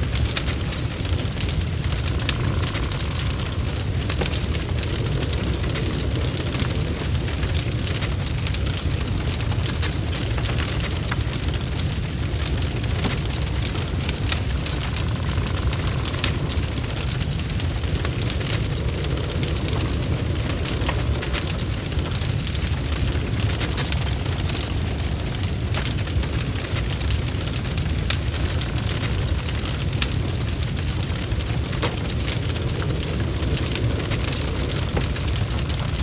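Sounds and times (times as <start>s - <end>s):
burning wood crackling and popping: 0.0s - 36.0s
low rumble of flames: 0.0s - 36.0s.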